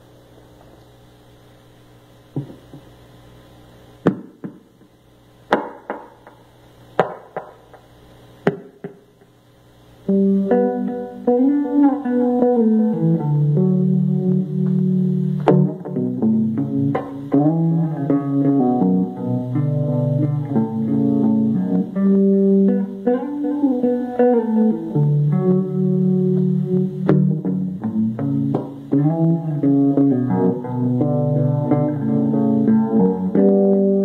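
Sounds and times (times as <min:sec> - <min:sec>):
amplifier low hum: 0:00.0 - 0:34.0
electric guitar through amplifier: 0:00.0 - 0:34.0.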